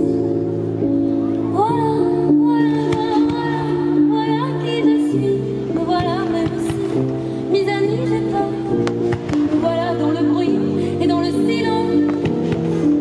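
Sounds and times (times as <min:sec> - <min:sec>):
person singing a melody: 0:01.4 - 0:13.0.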